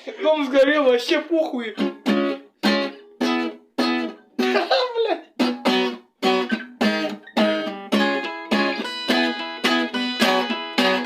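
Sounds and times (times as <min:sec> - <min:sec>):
acoustic guitar strumming chords: 0:01.2 - 0:11.0.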